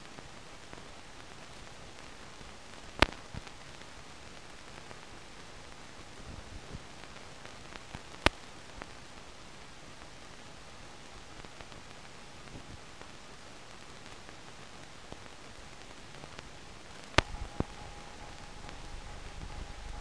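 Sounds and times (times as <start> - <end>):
film soundtrack hiss and crackle: 0.0 - 20.0.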